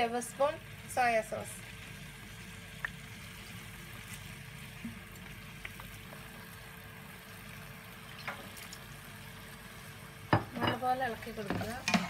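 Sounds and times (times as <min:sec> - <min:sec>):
stir-fry bubbling hiss: 0:00.0 - 0:12.0.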